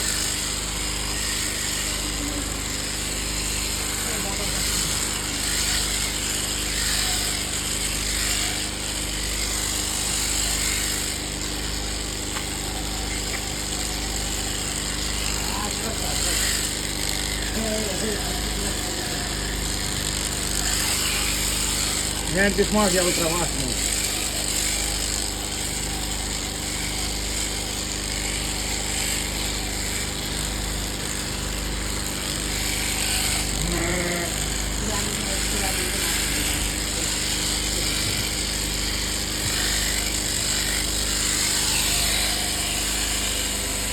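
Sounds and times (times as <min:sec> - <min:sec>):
electric clippers running: 0:00.0 - 0:43.9
electric shears buzzing: 0:00.0 - 0:43.9.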